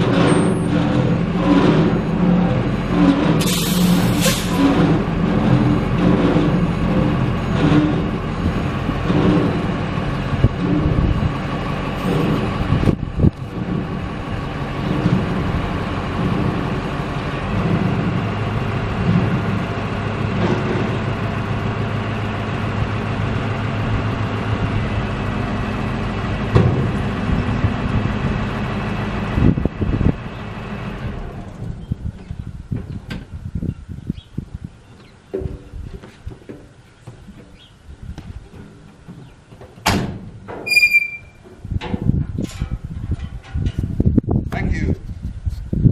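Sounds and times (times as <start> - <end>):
diesel truck engine running: 0.0 - 43.2.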